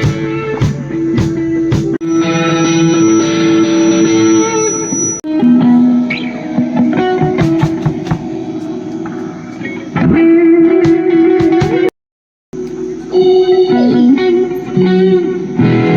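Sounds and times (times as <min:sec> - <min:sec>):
electric guitar notes bending: 0:00.0 - 0:11.9, 0:12.6 - 0:15.9.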